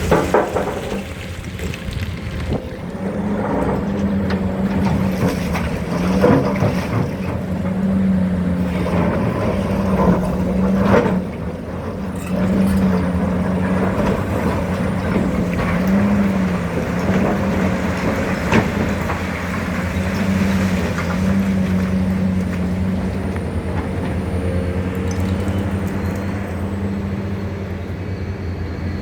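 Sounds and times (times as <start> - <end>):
excavator engine and hydraulics drone: 0.0 - 29.0.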